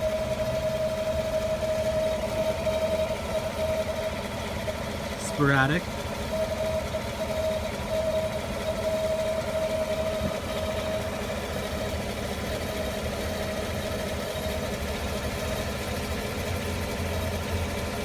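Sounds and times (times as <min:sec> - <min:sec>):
engine idling with high whine: 0:00.0 - 0:18.0.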